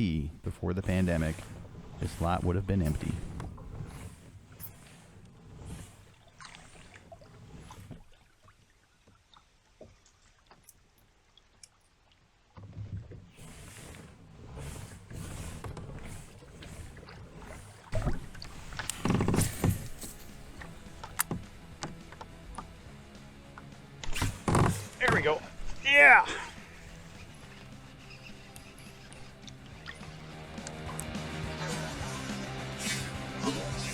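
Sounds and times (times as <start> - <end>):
water against kayak hull: 0.0 - 33.9.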